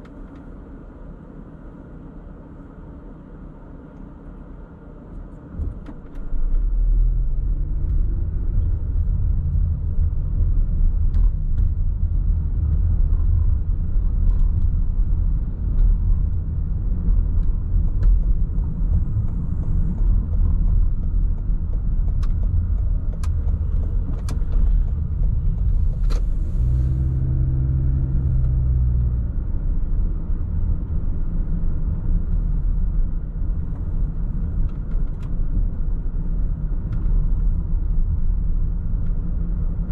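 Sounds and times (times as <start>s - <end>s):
engine and road noise rumble: 0.0s - 39.9s
engine hum: 0.0s - 39.9s.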